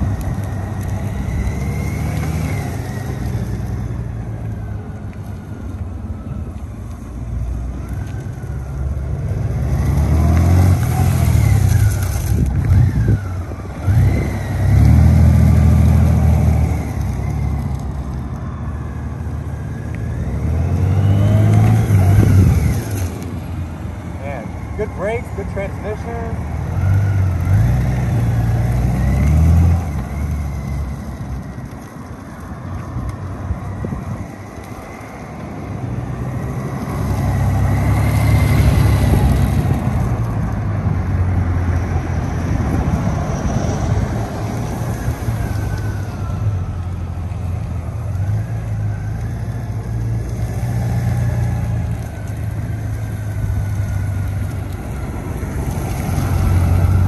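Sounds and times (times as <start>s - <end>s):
motorcycle engine at low speed: 0.0s - 24.7s, 25.4s - 57.0s.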